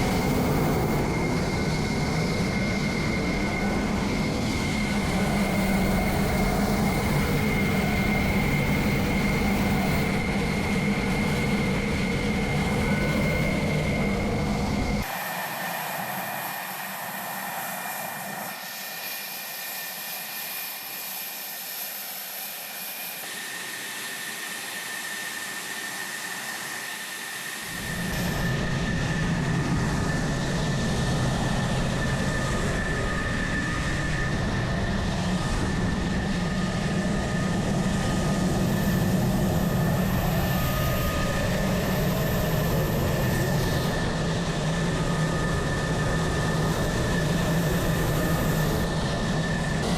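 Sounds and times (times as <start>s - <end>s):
jet engine idling whine: 0.0s - 49.9s.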